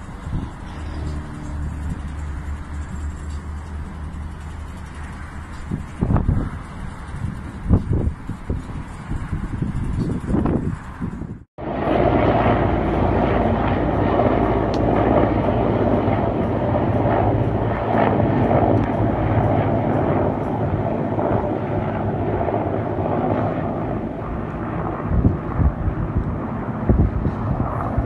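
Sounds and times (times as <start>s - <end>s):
helicopter flying past: 0.0s - 28.0s.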